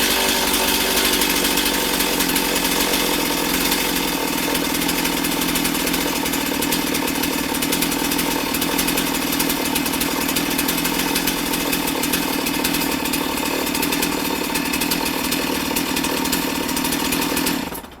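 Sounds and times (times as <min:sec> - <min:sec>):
chainsaw running: 0:00.0 - 0:18.0.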